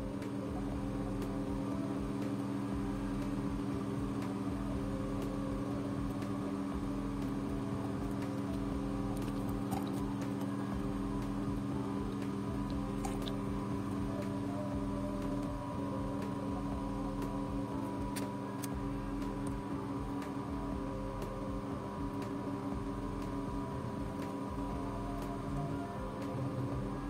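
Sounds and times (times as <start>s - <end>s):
steady hum with held tones: 0.0s - 27.0s.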